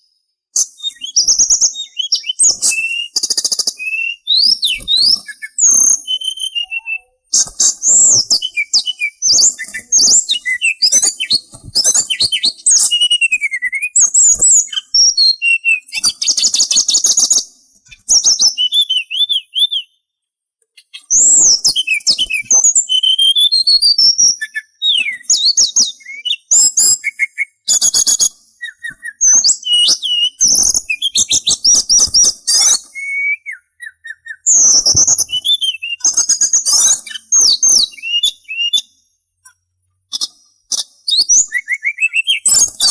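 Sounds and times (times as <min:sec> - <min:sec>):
songbird singing: 0:00.0 - 0:20.1, 0:20.8 - 0:42.9.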